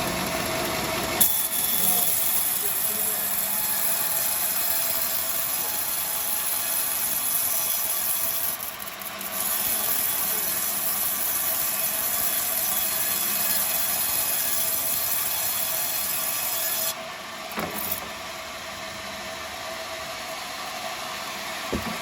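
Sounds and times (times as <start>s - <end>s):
band saw whining: 0.0s - 18.2s.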